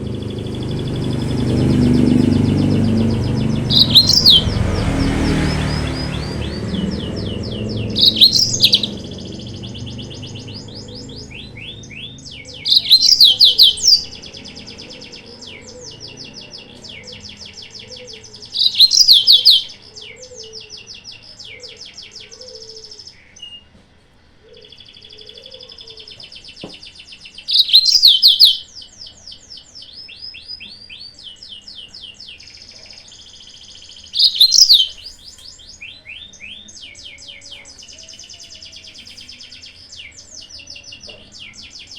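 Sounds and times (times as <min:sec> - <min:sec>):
ringing bird phrases: 0:00.0 - 0:23.7, 0:27.2 - 0:33.1, 0:34.0 - 0:41.9
canary trilling song: 0:00.0 - 0:41.9.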